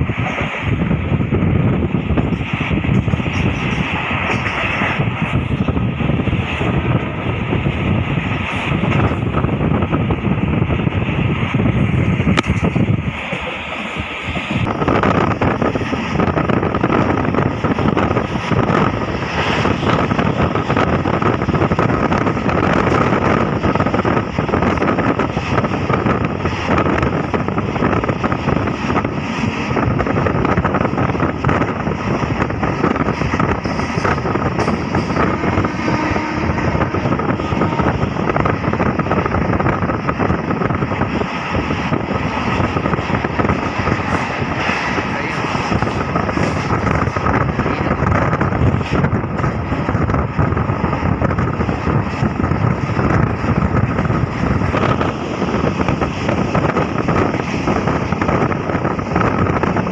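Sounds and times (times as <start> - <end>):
train wheel and rail noise: 0.0 - 59.9
wind buffeting microphone: 0.0 - 59.9.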